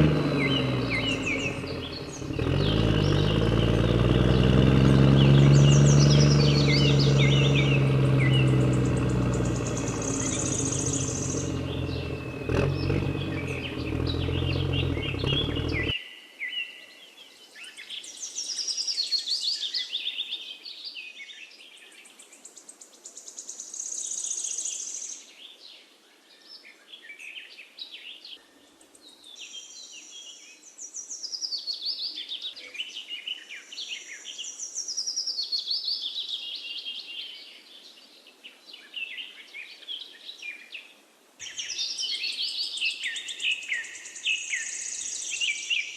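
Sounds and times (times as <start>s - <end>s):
small birds chirping: 0.0s - 16.0s, 17.2s - 45.9s.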